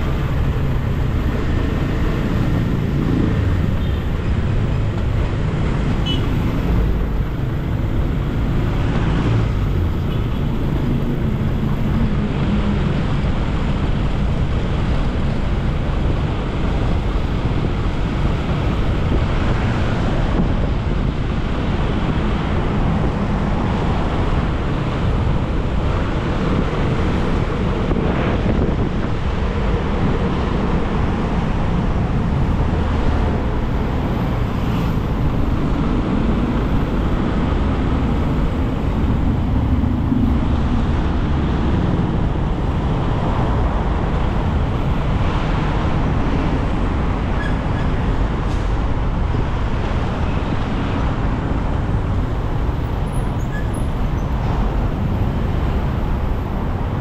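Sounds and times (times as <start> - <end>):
motorcycle engine and road noise: 0.0 - 57.0
nearby motorcycles and cars: 0.0 - 57.0.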